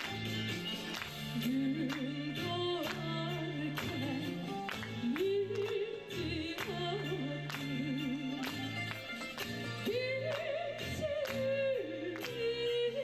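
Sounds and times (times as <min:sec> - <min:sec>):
woman singing: 0:00.0 - 0:09.0, 0:09.7 - 0:13.0.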